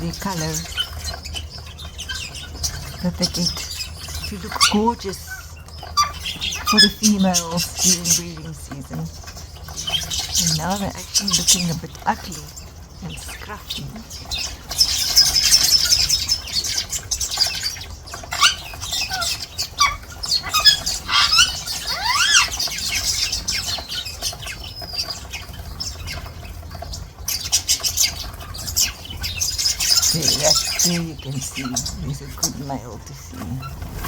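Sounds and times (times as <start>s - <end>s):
songbirds chattering: 0.0s - 34.0s.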